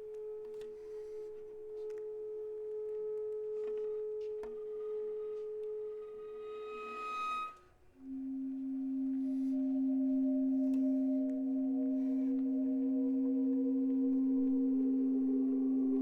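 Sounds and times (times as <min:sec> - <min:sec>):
viola long held tones: 0:00.0 - 0:16.0.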